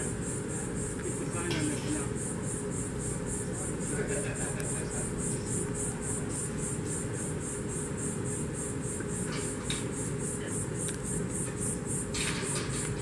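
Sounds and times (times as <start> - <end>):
faint hum: 0.0 - 13.0
insect chirping: 0.0 - 13.0.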